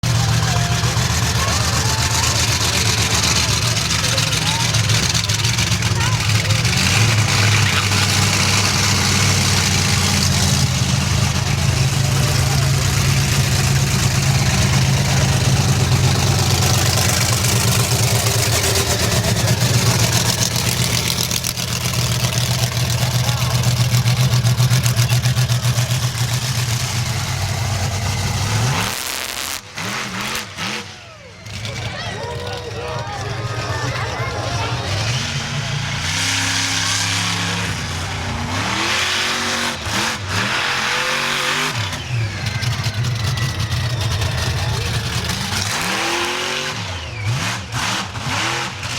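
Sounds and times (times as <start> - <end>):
monster truck engine idling: 0.0 - 48.9.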